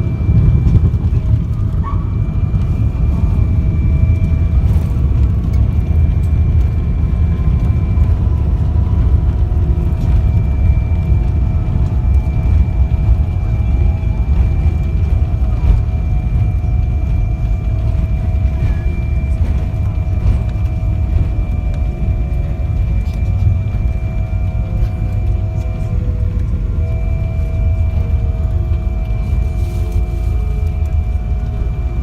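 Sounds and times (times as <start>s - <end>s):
airplane cabin rumble: 0.0s - 32.0s
faint steady whining tones: 0.0s - 32.0s.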